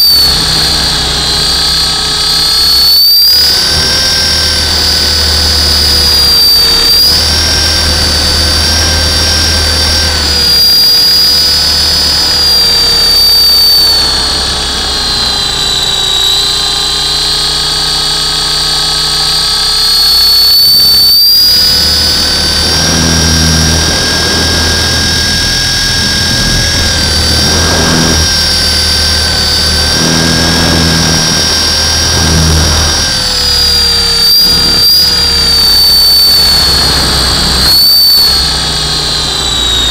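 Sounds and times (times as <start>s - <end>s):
low rumble: 0.0s - 18.7s, 19.9s - 39.9s
model helicopter rotor whine: 0.0s - 39.9s.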